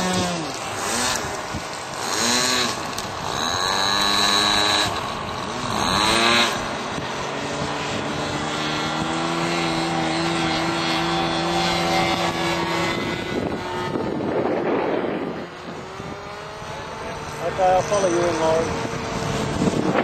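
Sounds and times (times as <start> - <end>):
model airplane engine: 0.0 - 20.0.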